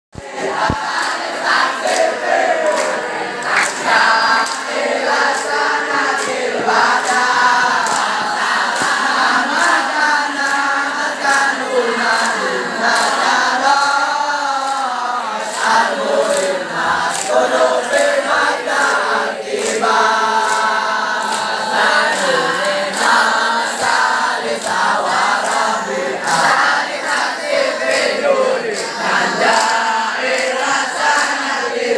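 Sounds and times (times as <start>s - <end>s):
boys chanting in unison: 0.2s - 31.9s.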